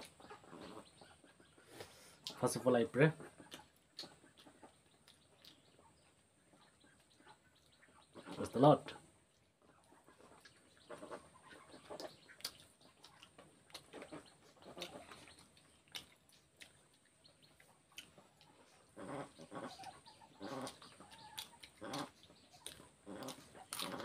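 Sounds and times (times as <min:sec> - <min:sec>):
chewing and lip smacks: 0:03.3 - 0:08.4, 0:09.3 - 0:24.0.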